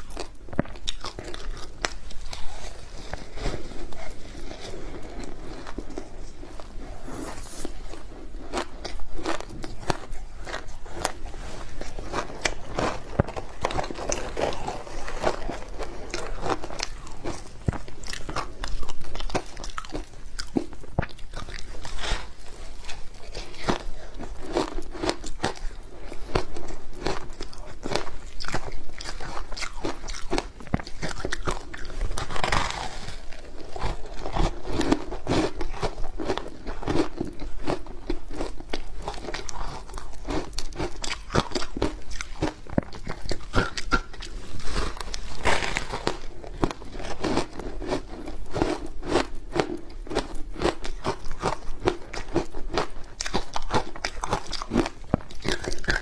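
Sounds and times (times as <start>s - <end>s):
crunching and chewing ice: 0.0s - 56.0s.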